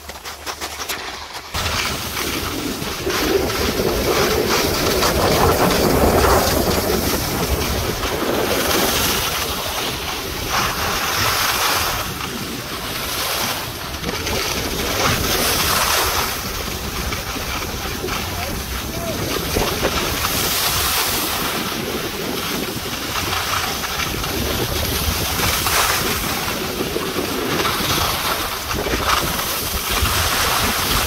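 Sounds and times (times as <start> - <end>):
wind rushing over microphone: 1.5 - 31.0.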